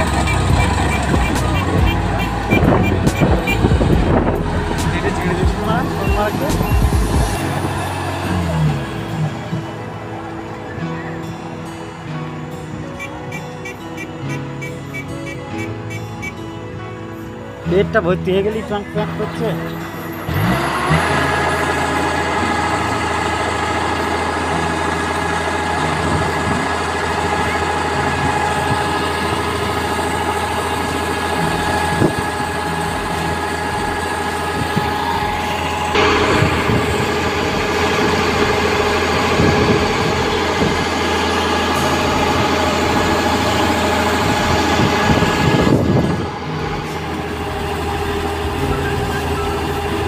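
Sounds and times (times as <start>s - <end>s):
mechanical whine: 0.0s - 16.4s, 18.9s - 50.0s
combine harvester engine rumbling: 0.0s - 50.0s.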